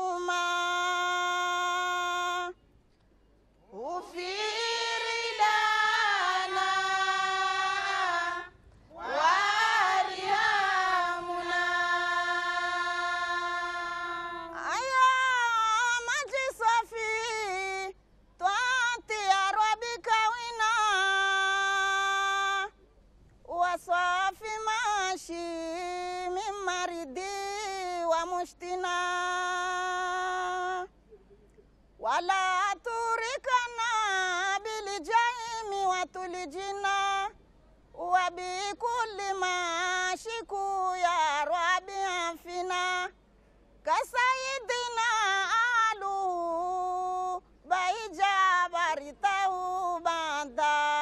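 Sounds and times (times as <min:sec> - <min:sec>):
woman chanting unaccompanied: 0:00.0 - 0:02.6, 0:03.7 - 0:22.8, 0:23.5 - 0:30.9, 0:32.0 - 0:37.4, 0:38.0 - 0:43.2, 0:43.8 - 0:51.0.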